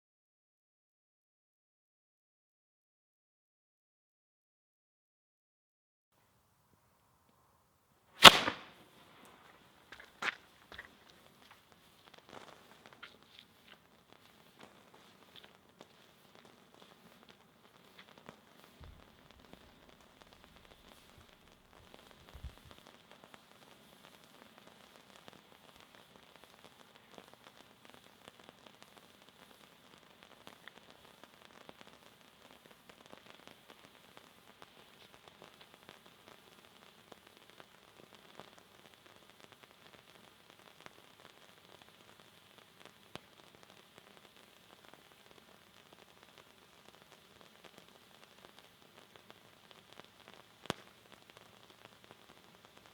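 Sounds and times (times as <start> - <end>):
firework sputtering hiss: 8.2 - 52.9.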